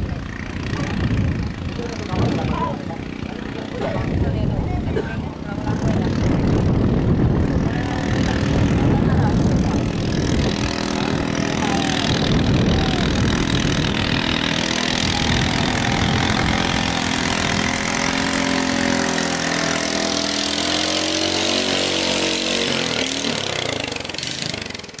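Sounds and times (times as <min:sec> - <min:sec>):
boat engine passing by: 0:00.0 - 0:25.0.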